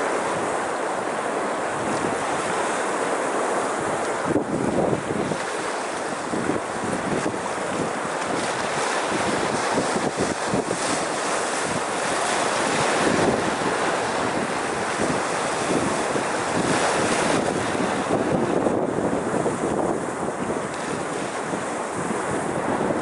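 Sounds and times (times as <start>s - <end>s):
waves breaking on rocks: 0.0s - 23.0s
wind buffeting microphone: 0.0s - 23.0s.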